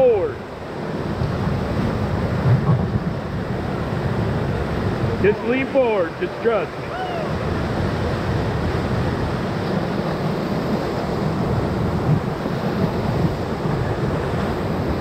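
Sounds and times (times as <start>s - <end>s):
whitewater rapids rushing: 0.0s - 15.0s.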